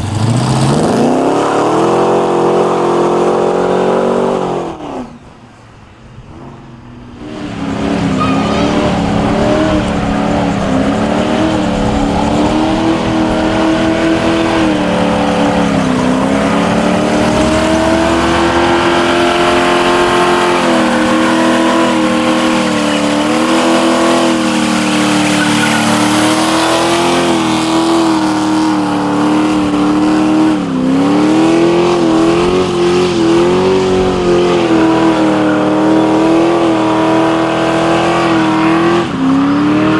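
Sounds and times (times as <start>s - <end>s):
tires spinning and hissing: 0.0s - 39.9s
car engine revving: 6.2s - 39.9s.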